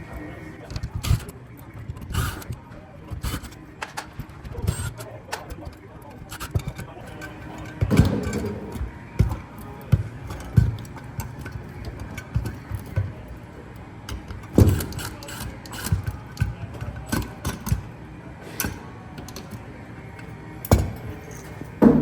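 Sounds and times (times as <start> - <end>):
hand tools clicking and knocking: 0.0 - 13.4, 14.1 - 17.8, 18.5 - 19.6.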